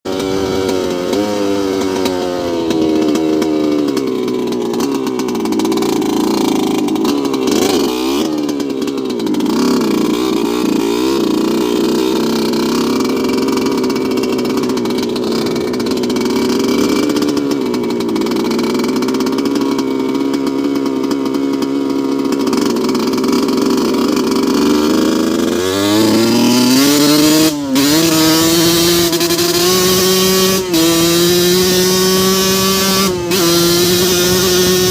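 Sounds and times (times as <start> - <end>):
motocross bike engine running: 0.1 - 34.9.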